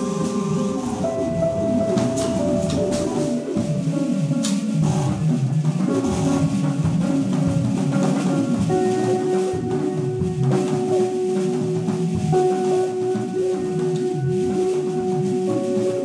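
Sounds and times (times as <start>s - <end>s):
drums: 0.0s - 16.0s
jazz band improvising: 0.0s - 16.0s.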